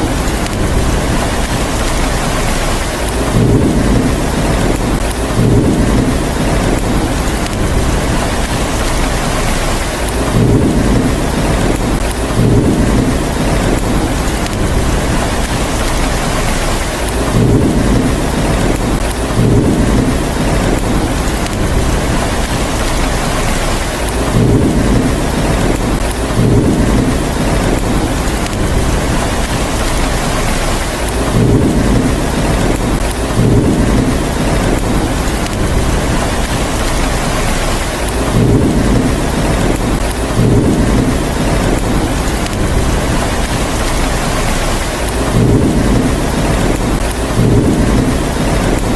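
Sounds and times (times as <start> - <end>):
heavy rain hissing: 0.0 - 48.9
low thunder rumbles: 0.0 - 48.9.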